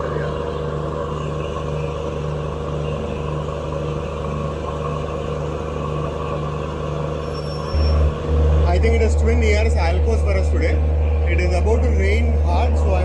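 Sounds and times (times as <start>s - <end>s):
diesel locomotives idling: 0.0s - 13.0s.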